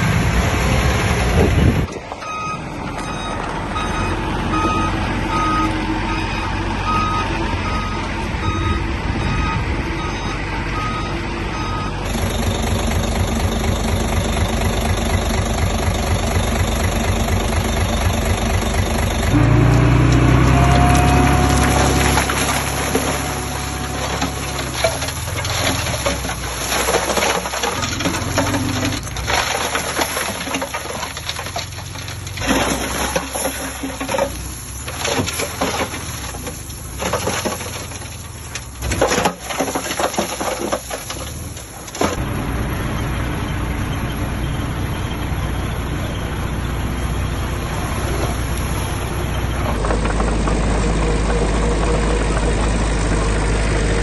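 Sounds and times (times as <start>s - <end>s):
low engine hum: 0.0s - 37.0s, 41.1s - 54.0s
heavy machinery diesel engines running: 0.0s - 54.0s.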